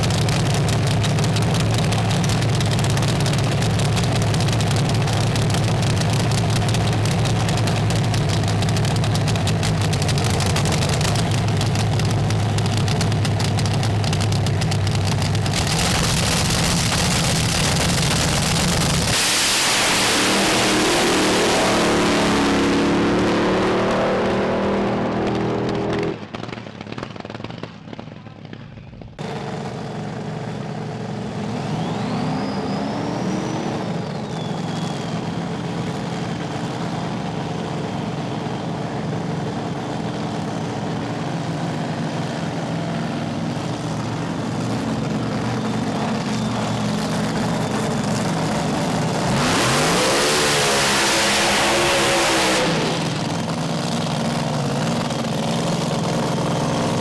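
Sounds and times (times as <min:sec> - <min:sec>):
dragster engine idling and revving: 0:00.0 - 0:57.0.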